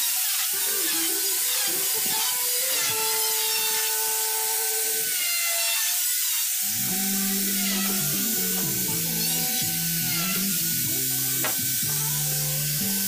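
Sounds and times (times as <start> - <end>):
router cutting wood: 0.0 - 13.0
router motor whine: 0.0 - 13.0.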